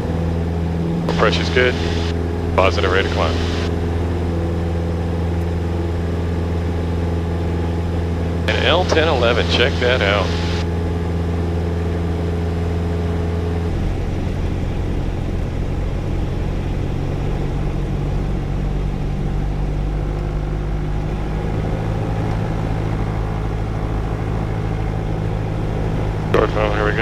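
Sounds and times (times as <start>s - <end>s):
aircraft piston engine and propeller: 0.0s - 27.0s.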